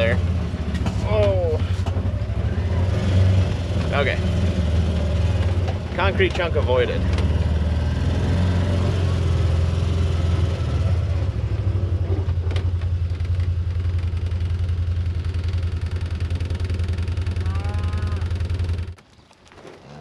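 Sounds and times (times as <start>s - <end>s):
vehicle engine low drone: 0.0s - 19.0s.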